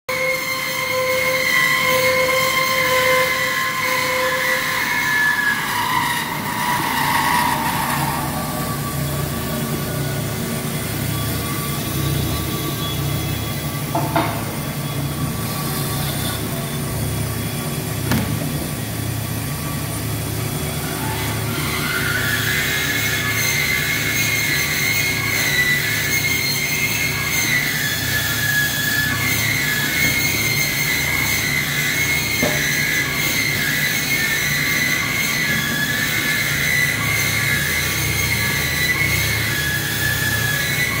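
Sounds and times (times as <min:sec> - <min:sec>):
band saw motor hum: 0:00.1 - 0:41.0
high ringing blade whine: 0:00.1 - 0:41.0.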